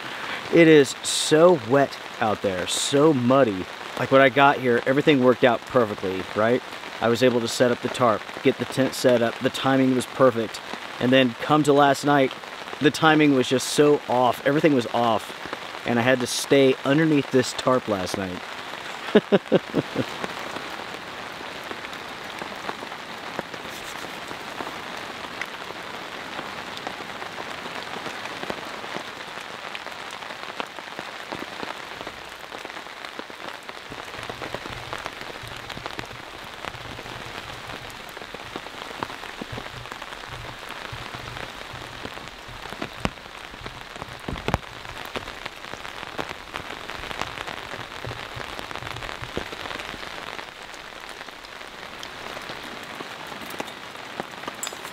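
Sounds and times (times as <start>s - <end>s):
drops dripping from tarp edge: 0.0s - 54.9s
rain on wet forest floor: 0.0s - 54.9s
rain pattering on a tarp: 0.0s - 54.9s.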